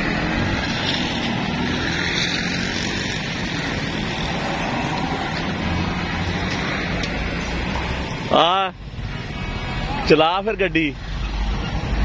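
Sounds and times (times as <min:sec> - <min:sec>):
car engines running: 0:00.0 - 0:12.0
traffic rushing hiss: 0:00.0 - 0:12.0.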